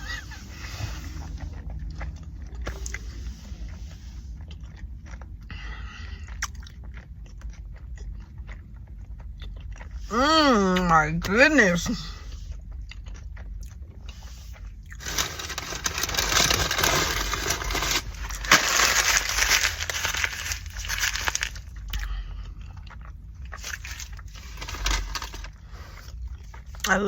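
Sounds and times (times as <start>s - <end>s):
chewing food: 0.0s - 10.1s, 12.1s - 27.0s
crackling and rustling eating noises: 0.0s - 27.0s.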